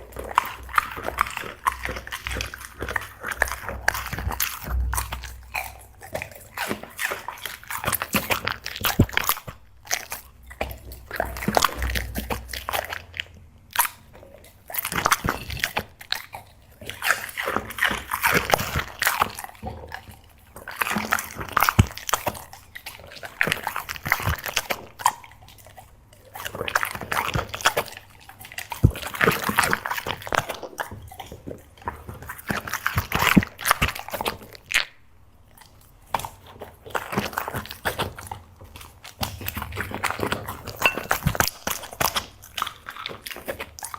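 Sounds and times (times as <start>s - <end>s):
dog crunching snacks: 0.0s - 43.9s.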